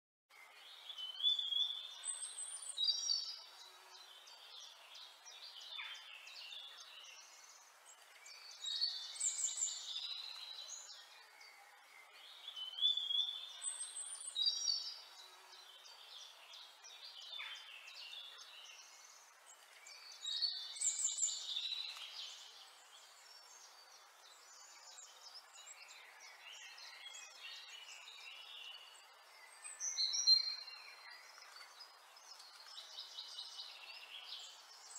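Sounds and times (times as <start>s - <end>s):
birds chirping and trilling: 0.3s - 34.9s
faint steady hiss: 0.3s - 34.9s.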